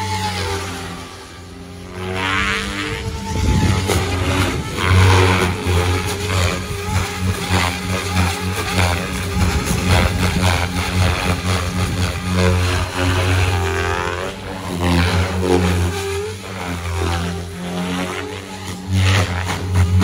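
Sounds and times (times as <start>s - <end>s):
model helicopter rotor buzzing: 0.0s - 20.0s.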